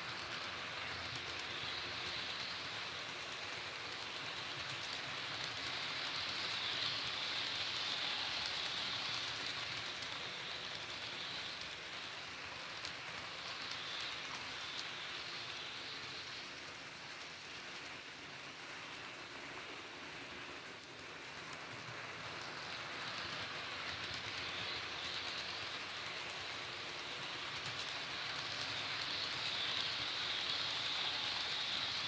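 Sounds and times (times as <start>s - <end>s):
model train wheels rumbling: 0.0s - 32.0s.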